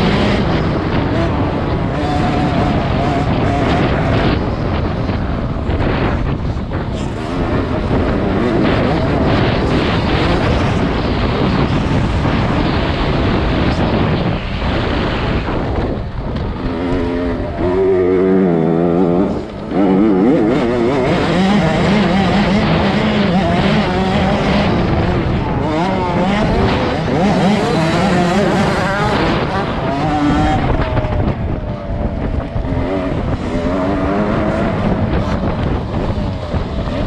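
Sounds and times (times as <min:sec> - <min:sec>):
motocross bike engine revving: 0:00.0 - 0:37.0
wind noise: 0:00.0 - 0:37.0.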